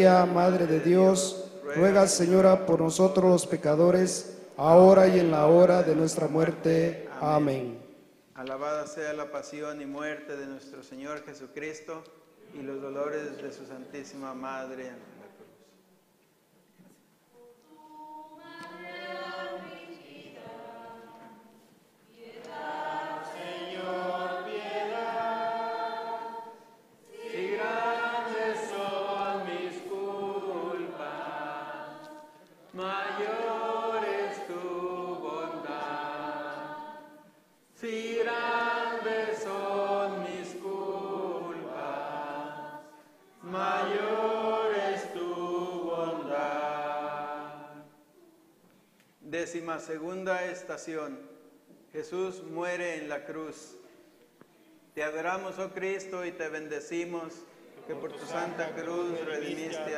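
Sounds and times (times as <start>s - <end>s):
congregation singing a hymn: 0.0s - 11.4s, 12.4s - 15.4s, 17.4s - 48.2s, 55.0s - 59.9s.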